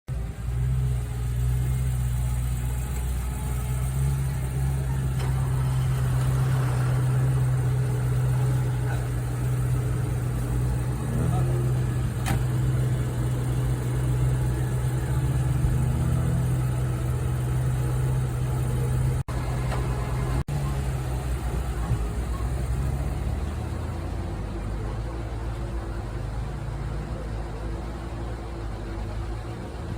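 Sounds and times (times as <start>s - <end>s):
car engine idling: 0.1s - 29.9s.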